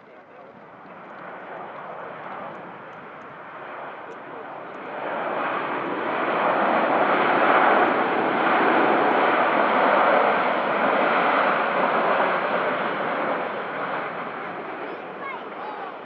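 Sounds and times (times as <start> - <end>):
airliner engines passing: 0.0 - 16.0.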